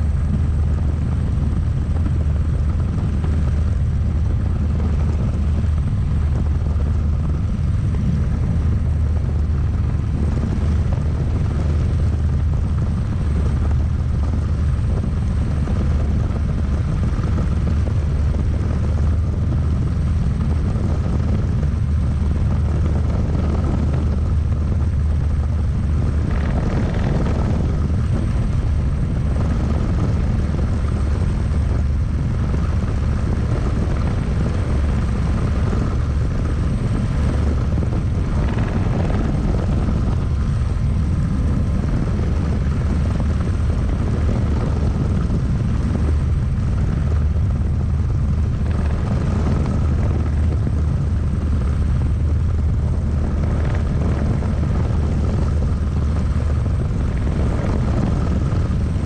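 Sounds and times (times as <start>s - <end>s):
helicopter rotor and turbine drone: 0.0s - 59.0s.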